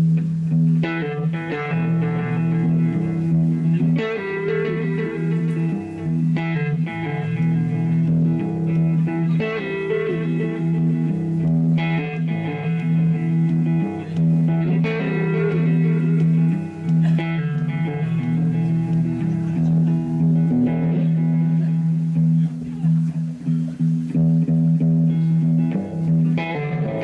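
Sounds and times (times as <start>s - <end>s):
electric guitar chords: 0.0s - 27.0s.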